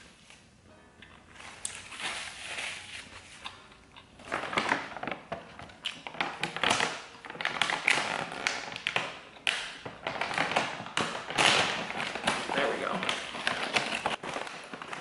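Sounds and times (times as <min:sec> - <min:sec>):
chip bag crinkling and rustling: 0:01.3 - 0:15.0.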